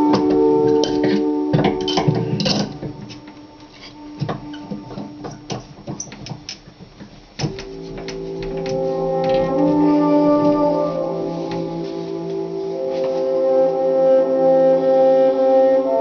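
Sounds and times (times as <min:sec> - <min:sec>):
background music: 0:00.0 - 0:16.0
held chords: 0:00.0 - 0:16.0.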